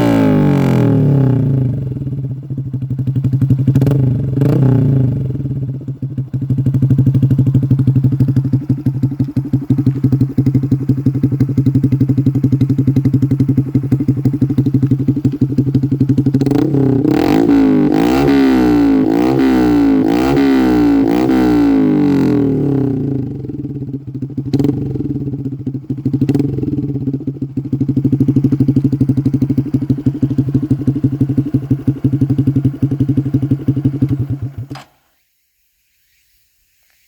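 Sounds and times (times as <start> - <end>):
motorcycle engine revving and idling: 0.0 - 34.9.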